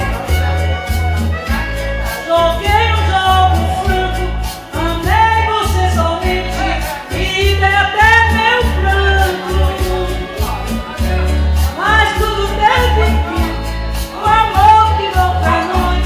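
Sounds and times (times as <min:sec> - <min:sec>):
song with pulsing bass beat: 0:00.0 - 0:16.0.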